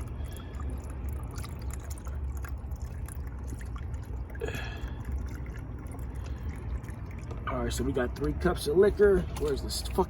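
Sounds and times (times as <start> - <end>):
liquor pouring into cups: 0.0 - 8.5.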